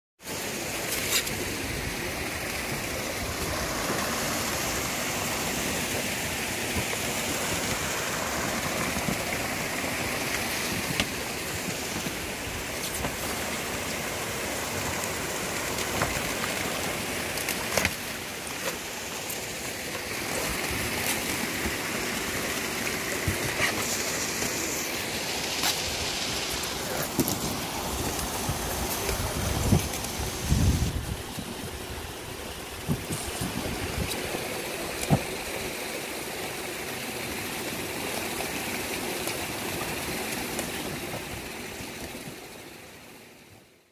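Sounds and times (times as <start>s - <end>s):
aerators churning water: 0.2s - 43.5s.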